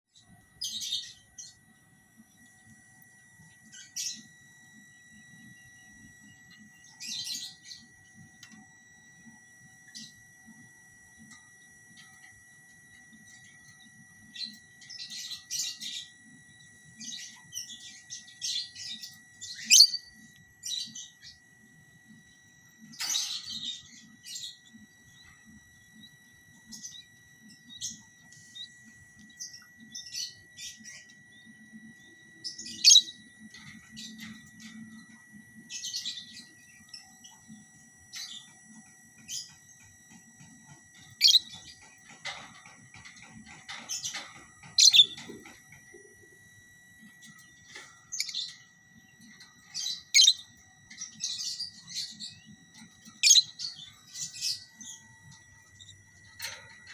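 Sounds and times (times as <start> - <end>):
lovebirds chirping and squawking: 0.2 - 4.4, 6.2 - 10.6, 11.9 - 56.9.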